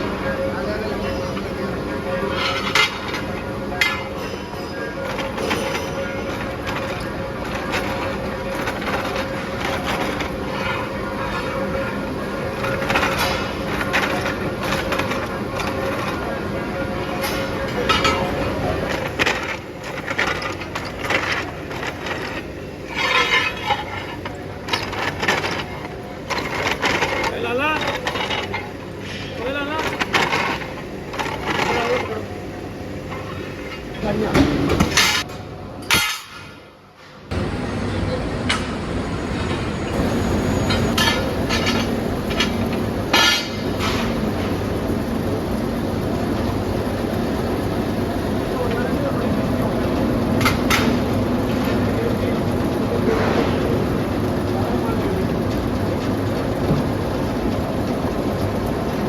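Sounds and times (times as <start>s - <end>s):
steady machine drone: 0.0s - 59.0s.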